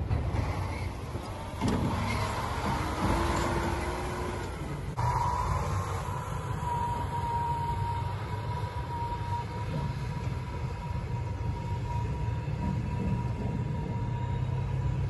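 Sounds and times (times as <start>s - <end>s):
truck diesel engine rumble: 0.0s - 15.0s.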